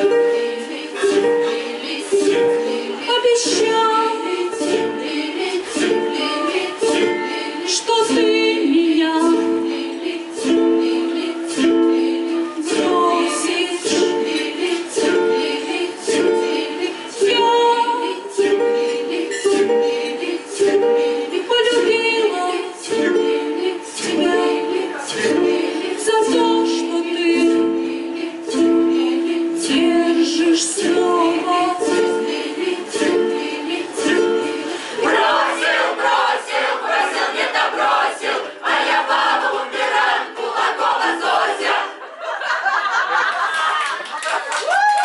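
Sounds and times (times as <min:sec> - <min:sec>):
ukulele strumming: 0:00.0 - 0:42.1.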